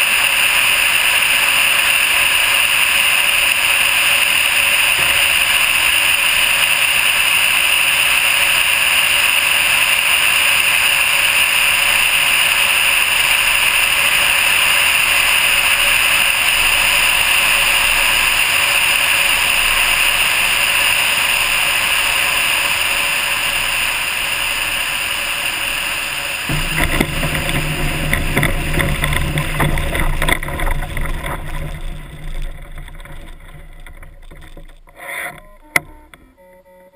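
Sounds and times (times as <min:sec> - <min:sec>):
rushing airflow: 0:00.0 - 0:35.0.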